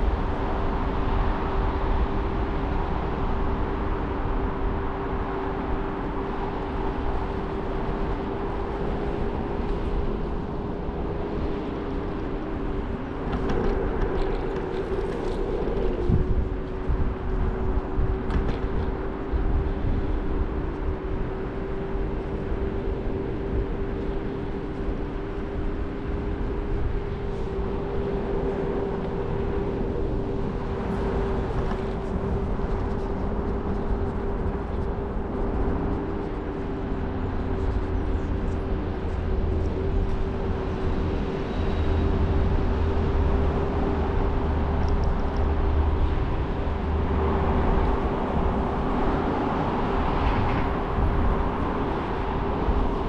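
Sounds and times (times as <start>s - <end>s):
scooter engine steady tone: 0.0s - 53.0s
wind and road noise rumble: 0.0s - 53.0s.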